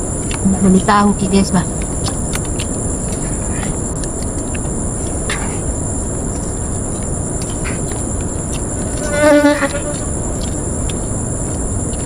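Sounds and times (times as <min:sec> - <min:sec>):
crickets trilling: 0:00.0 - 0:12.0
low rumbling noise: 0:00.0 - 0:12.0.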